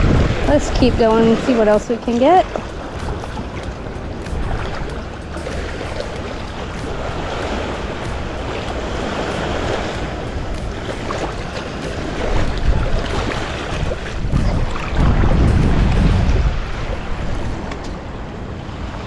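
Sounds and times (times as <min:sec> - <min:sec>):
surf washing over sand: 0:00.0 - 0:19.0
wind buffeting microphone: 0:00.0 - 0:19.0.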